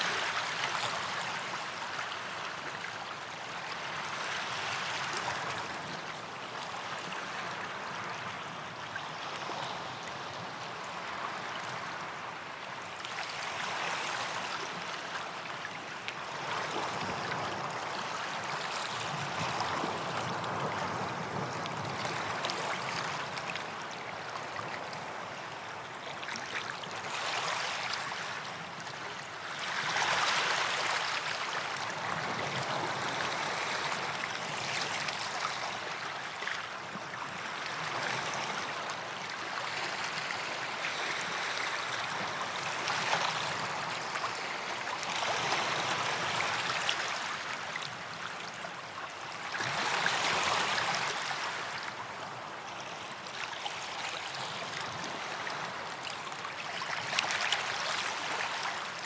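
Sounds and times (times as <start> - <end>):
waves washing onto sand: 0.0 - 59.0.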